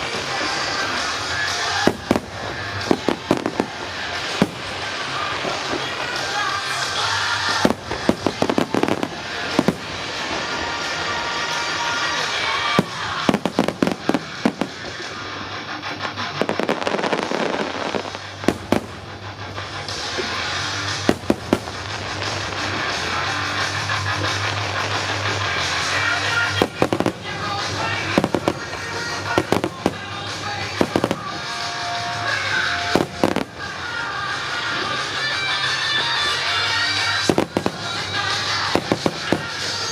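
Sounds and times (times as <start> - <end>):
fireworks bangs: 0.0 - 39.9
fireworks crackling: 0.0 - 39.9
music playing: 0.0 - 39.9.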